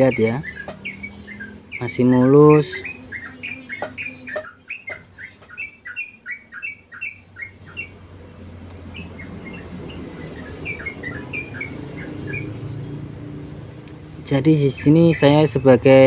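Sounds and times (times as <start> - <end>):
small bird chirping: 0.0 - 13.1.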